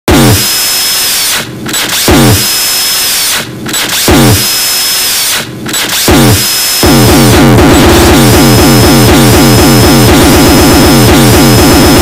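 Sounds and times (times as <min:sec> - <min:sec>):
distorted drill-like whirring: 0:00.1 - 0:12.0.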